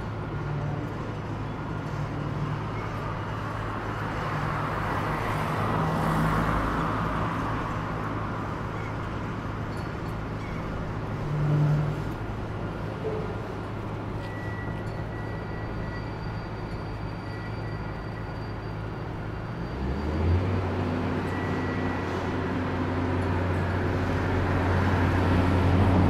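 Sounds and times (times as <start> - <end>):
heavy machinery diesel engines: 0.0 - 26.0.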